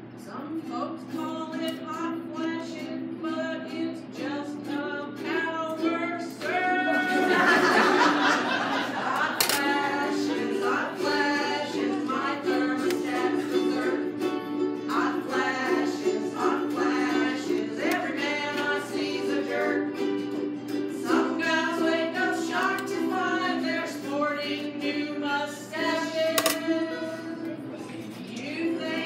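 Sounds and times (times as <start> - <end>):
ukuleles strumming: 0.0 - 29.0
person singing: 0.6 - 8.1, 8.9 - 29.0.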